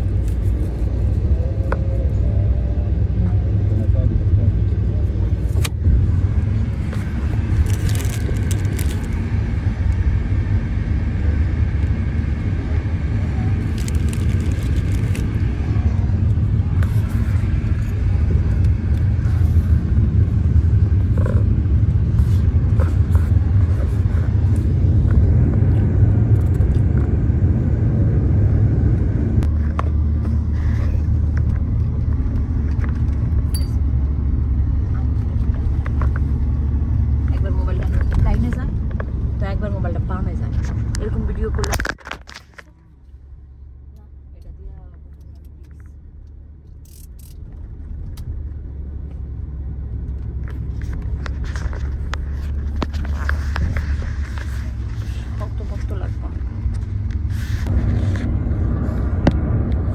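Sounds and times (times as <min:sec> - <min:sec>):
car cabin road and engine rumble: 0:00.0 - 0:59.9.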